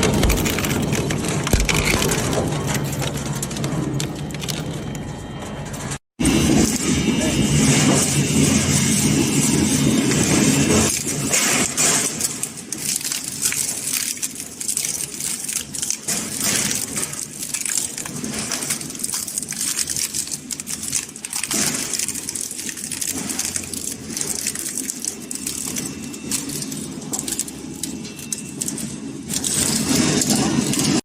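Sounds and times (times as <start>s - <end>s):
shredder crushing scrap metal: 0.0s - 4.9s, 5.6s - 31.0s.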